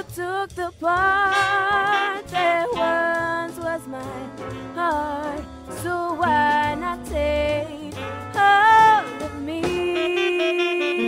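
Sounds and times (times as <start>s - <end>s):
instrumental accompaniment: 0.0s - 11.0s
young woman singing: 0.0s - 11.0s.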